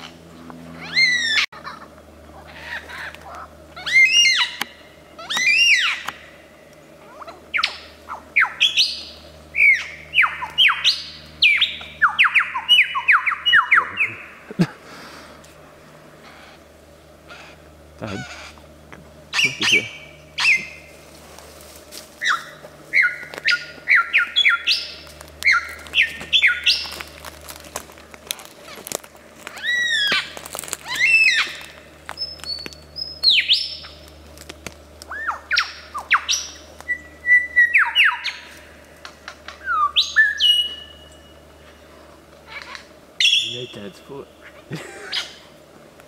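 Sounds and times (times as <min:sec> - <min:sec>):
lyrebird singing: 0:00.0 - 0:14.6, 0:16.2 - 0:21.0, 0:22.2 - 0:27.9, 0:28.5 - 0:34.3, 0:35.0 - 0:45.6.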